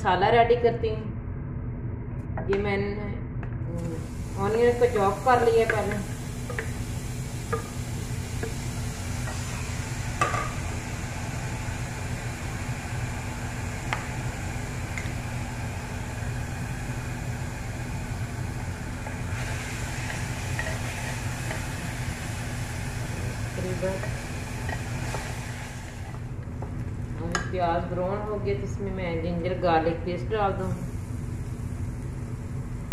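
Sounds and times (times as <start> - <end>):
steady low hum: 0.0 - 32.9
onion frying: 3.8 - 28.3, 30.5 - 32.9.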